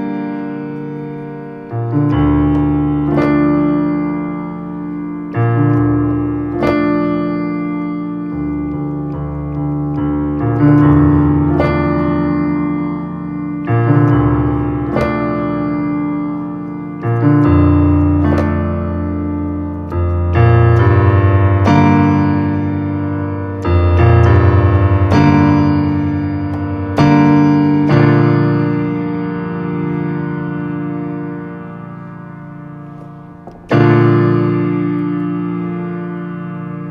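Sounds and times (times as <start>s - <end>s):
slow piano chords: 0.0s - 36.9s.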